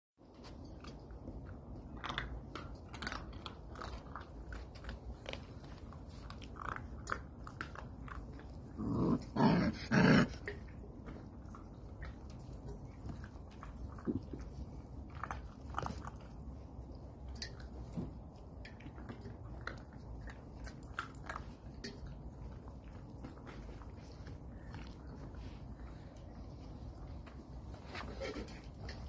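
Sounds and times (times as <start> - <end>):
low steady background: 0.2 - 29.0
puppies play-biting snaps: 0.3 - 29.0.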